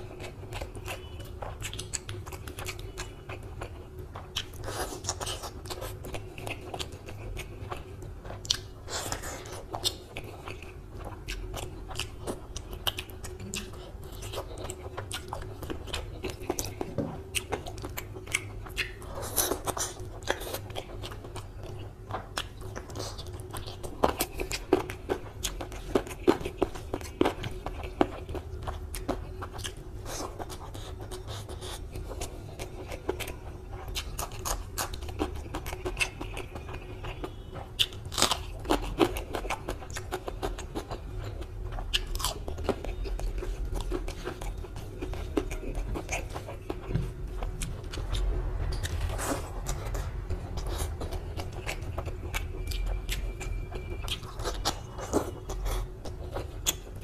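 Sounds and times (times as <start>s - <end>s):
food crunching: 0.0s - 57.0s
wet chewing and mouth smacks: 0.0s - 57.0s.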